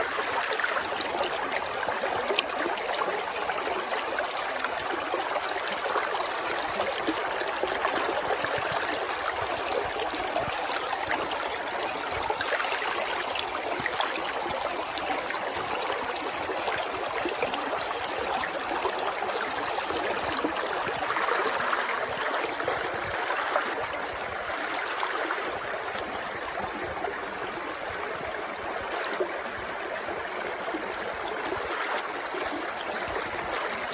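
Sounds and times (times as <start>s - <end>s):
brook babbling: 0.0s - 33.9s.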